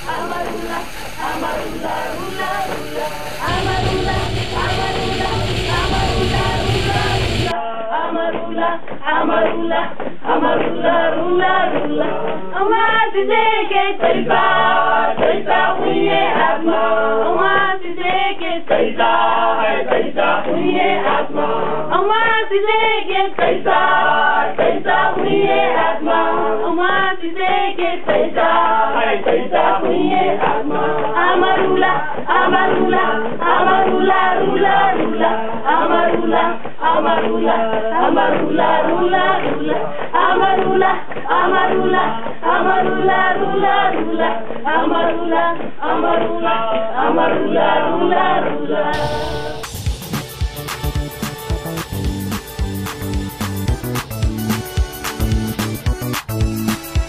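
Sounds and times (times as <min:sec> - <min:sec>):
choir-like group singing: 0:00.0 - 0:53.9.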